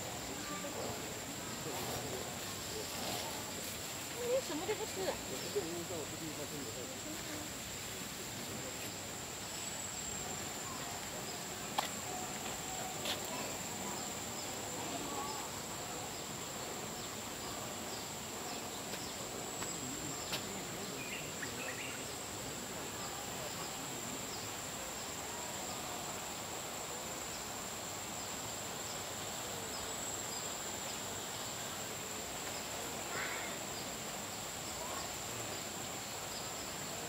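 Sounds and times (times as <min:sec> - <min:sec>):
low background hiss: 0:00.0 - 0:37.0.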